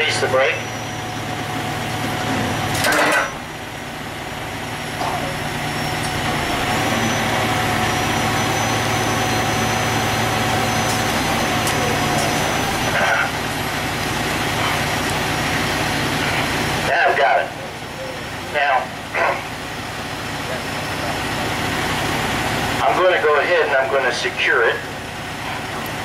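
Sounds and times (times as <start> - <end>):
constant whine: 0.0 - 26.0
diesel engine idling: 0.0 - 26.0.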